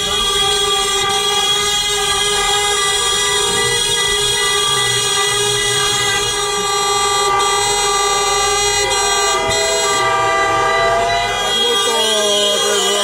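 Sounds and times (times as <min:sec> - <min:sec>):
car horns honking: 0:00.0 - 0:13.0.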